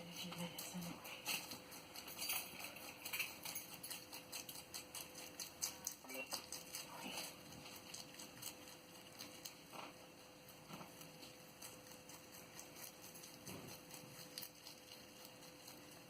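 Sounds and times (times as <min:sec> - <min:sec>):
rabbit chewing: 0:00.0 - 0:16.0.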